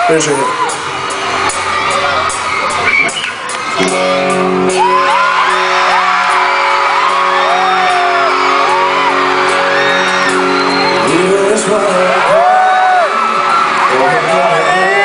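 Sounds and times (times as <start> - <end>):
concert crowd screaming: 0.0 - 15.0.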